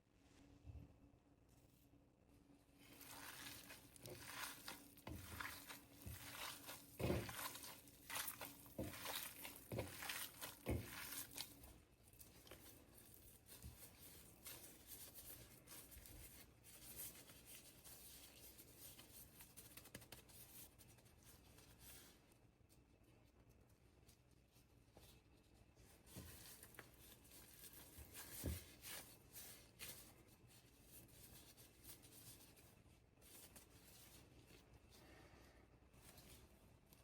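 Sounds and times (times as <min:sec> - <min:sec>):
crinkling and rustling: 0:02.7 - 0:37.0.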